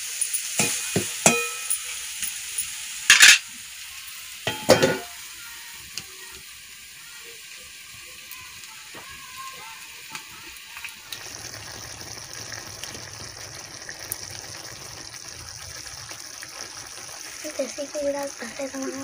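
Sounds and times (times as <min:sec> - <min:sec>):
curry sizzling and bubbling: 0:00.0 - 0:19.0.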